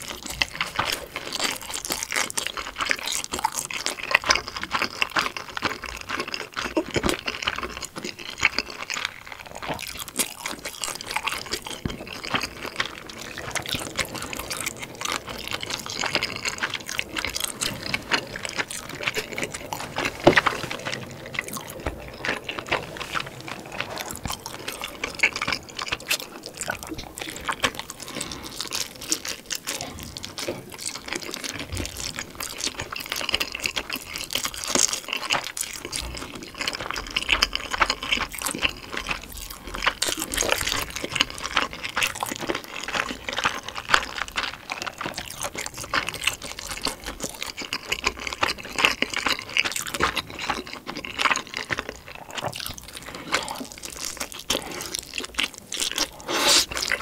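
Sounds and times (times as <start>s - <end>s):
person chewing dumplings: 0.0s - 57.0s.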